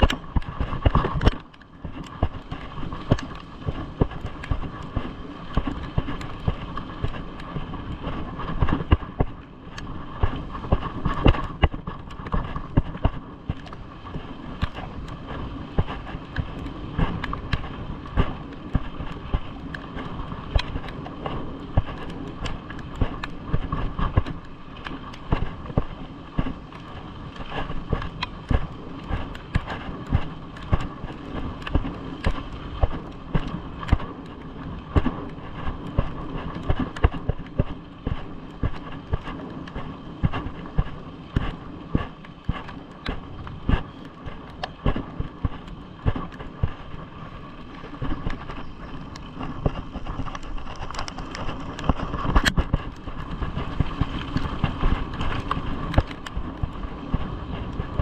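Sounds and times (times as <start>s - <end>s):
vehicle mechanical hum: 0.0s - 58.0s.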